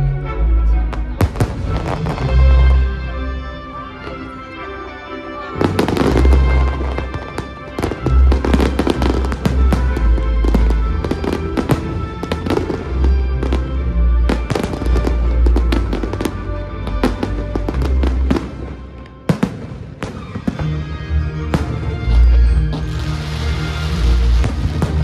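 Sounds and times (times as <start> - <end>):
music: 0.0 - 25.0
fireworks booming and crackling: 0.9 - 2.8, 5.6 - 25.0.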